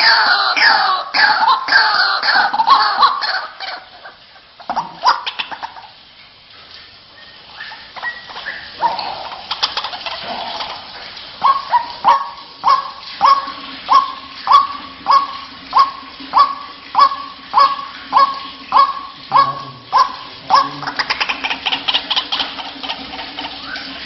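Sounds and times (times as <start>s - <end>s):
waterhen call repeating: 0.0s - 6.1s, 7.1s - 24.0s.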